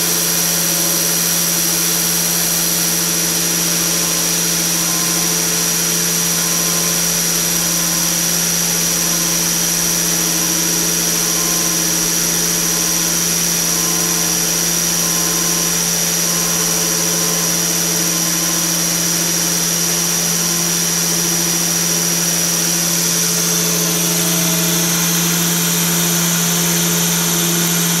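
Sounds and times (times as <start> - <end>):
grinding spindle whine: 0.0 - 28.0
low motor hum: 0.0 - 28.0.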